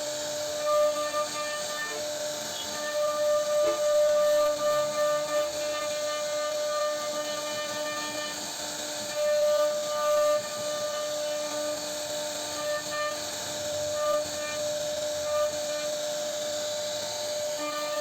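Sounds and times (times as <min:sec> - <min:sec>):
router spindle whining: 0:00.0 - 0:18.0
bit cutting into wood: 0:00.6 - 0:18.0.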